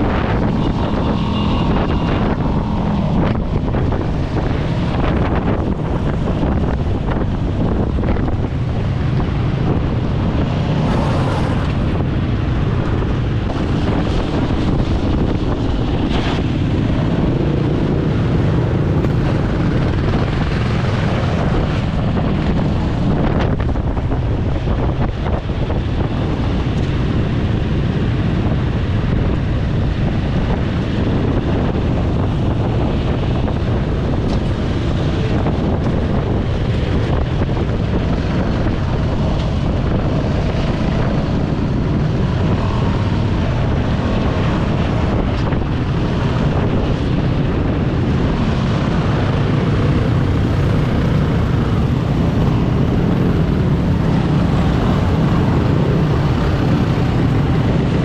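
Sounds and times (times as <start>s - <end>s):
motorcycle engine: 0.0s - 58.0s
road noise: 0.0s - 58.0s
wind buffeting microphone: 0.0s - 58.0s.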